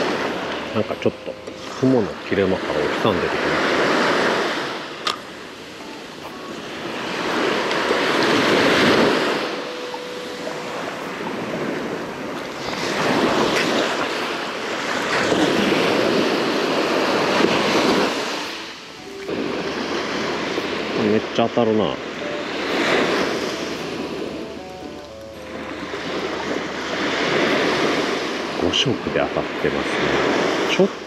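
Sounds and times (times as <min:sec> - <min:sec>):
small waves breaking on sand: 0:00.0 - 0:31.0.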